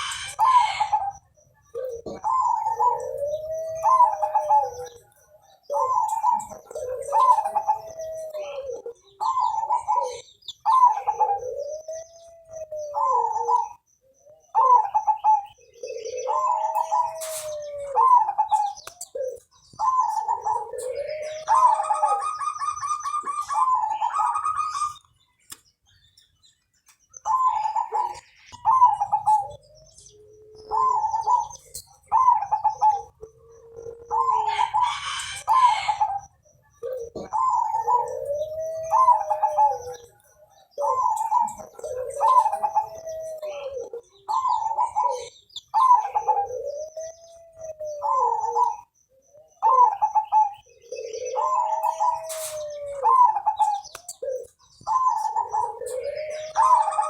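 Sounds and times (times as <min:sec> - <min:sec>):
dove cooing: 0:00.0 - 0:25.2, 0:26.1 - 0:57.0
higher chirping bird call: 0:00.0 - 0:57.0.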